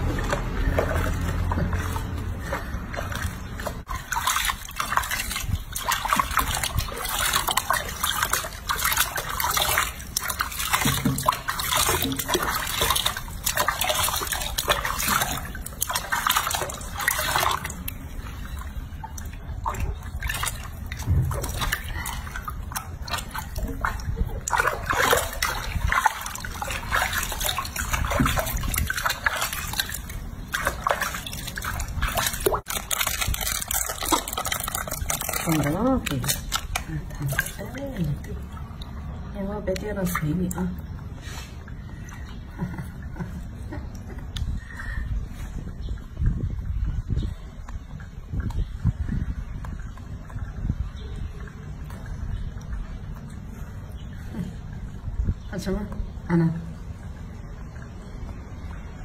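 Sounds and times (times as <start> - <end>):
water sloshing and splashing in sink: 0.0 - 59.0.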